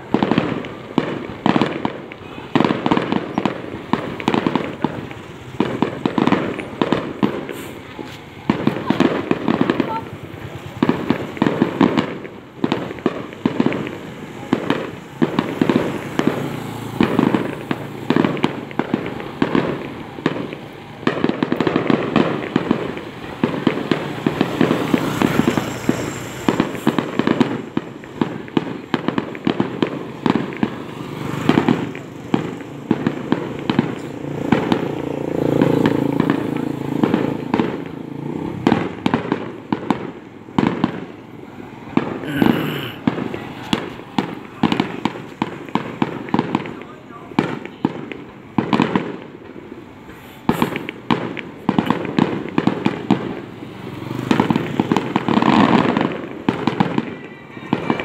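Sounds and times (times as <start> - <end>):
fireworks banging and popping: 0.0 - 58.0.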